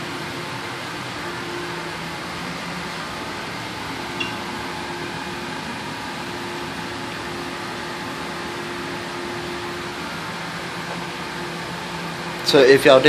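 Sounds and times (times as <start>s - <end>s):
ventilation hum: 0.0s - 13.0s.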